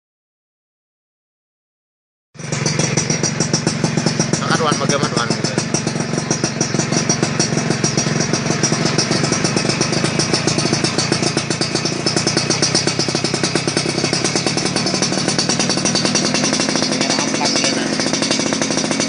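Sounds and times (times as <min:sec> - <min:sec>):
two-stroke engine running: 0:02.4 - 0:19.0.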